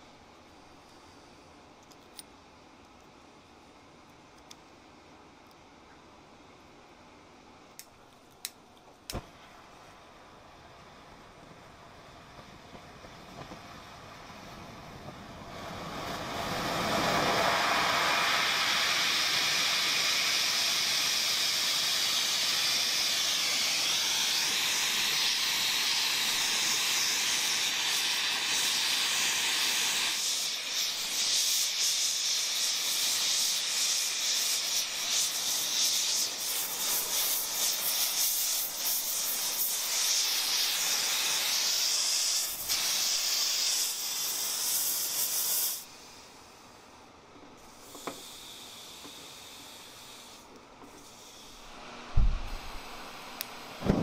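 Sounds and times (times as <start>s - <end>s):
gas torch hissing: 7.8s - 54.0s.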